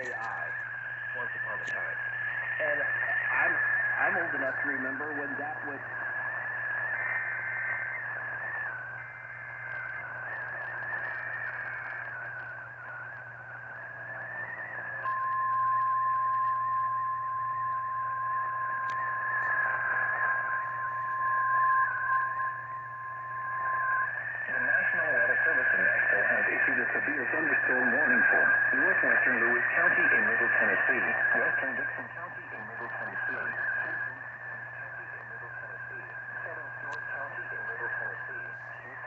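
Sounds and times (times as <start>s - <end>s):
data bursts: 0.0s - 39.0s
radio hiss: 0.0s - 39.0s
steady warning alarm tone: 0.0s - 39.0s.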